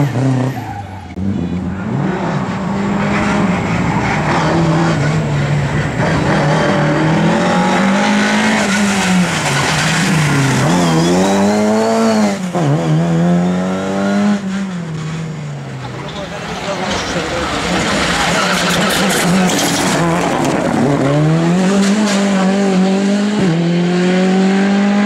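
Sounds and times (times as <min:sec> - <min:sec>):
tyres skidding: 0:00.0 - 0:23.8
rally car engine revving: 0:00.0 - 0:25.0.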